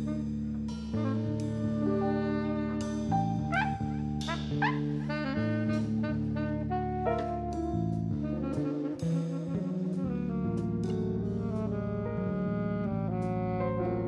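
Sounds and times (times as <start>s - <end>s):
held bass notes: 0.0s - 14.0s
piano notes: 0.0s - 14.0s
saxophone: 0.0s - 14.0s
trumpet: 0.0s - 14.0s.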